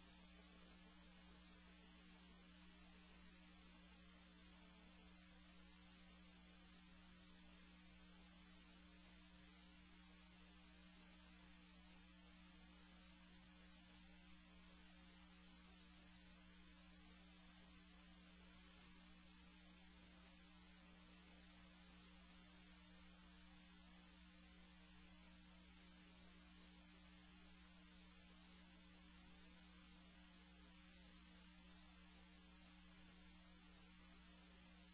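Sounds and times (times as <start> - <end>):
faint electrical hum with hiss: 0.0 - 34.9.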